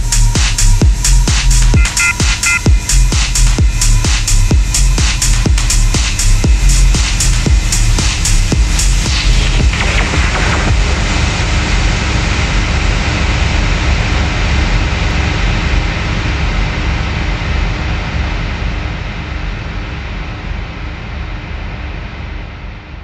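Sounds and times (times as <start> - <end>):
deep rumble: 0.0 - 23.0
loud white noise wash: 0.0 - 23.0.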